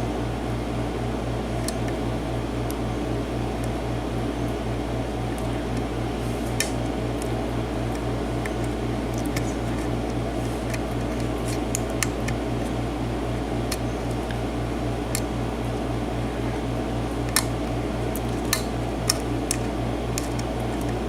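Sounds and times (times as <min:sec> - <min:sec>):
low fan hum: 0:00.0 - 0:21.0.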